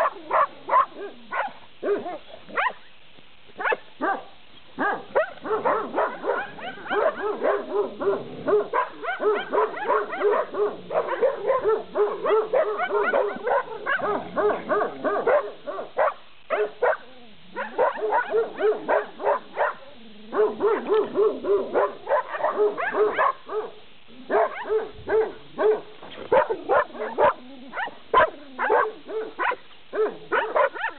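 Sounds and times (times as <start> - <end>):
dogs barking rapidly: 0.0 - 2.8, 3.6 - 30.9.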